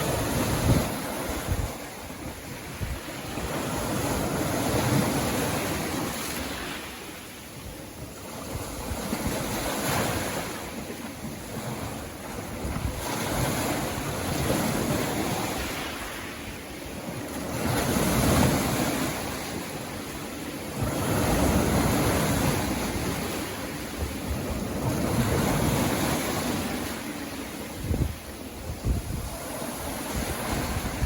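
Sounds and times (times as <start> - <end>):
sea waves breaking on beach: 0.0 - 31.0.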